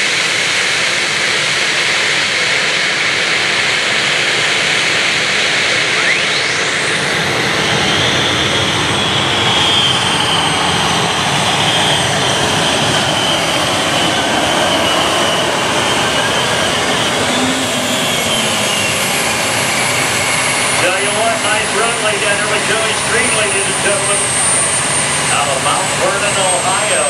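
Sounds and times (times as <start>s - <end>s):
high-pitched whine: 0.0s - 27.0s
tractor engines running loud: 0.0s - 27.0s.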